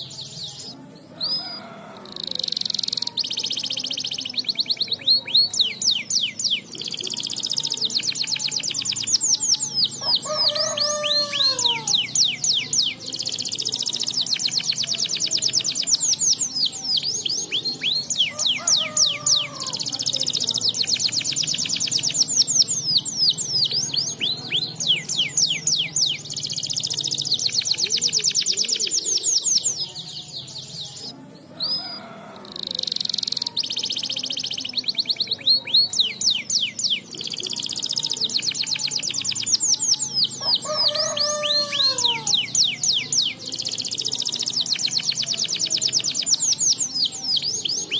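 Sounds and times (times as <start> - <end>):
canary singing rapid trills: 0.0 - 47.9.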